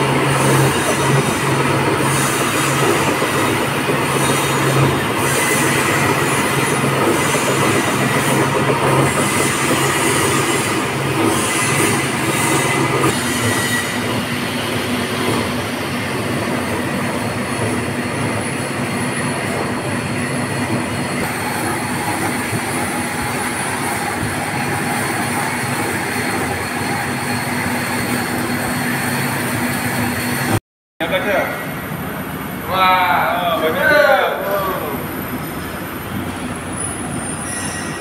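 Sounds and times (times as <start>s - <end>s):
metal lathe cutting pipe: 0.0s - 30.6s.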